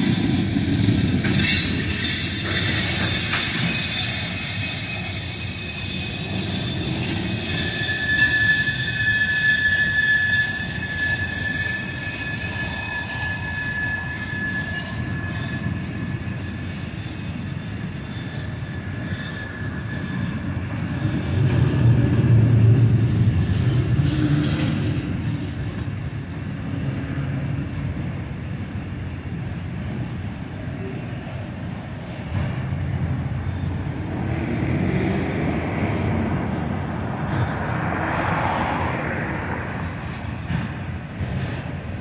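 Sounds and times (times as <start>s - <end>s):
high wheel squeal: 0.0s - 42.0s
train wheels rumbling on rail: 0.0s - 42.0s.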